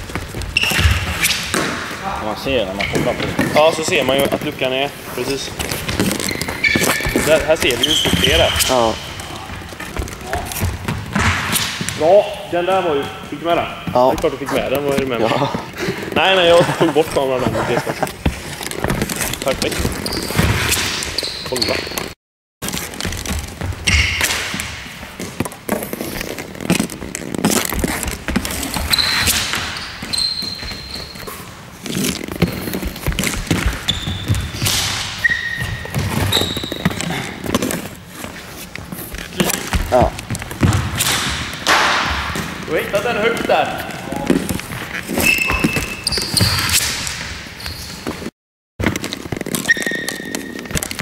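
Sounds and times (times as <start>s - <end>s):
shoes squeaking on court floor: 0.0s - 51.0s.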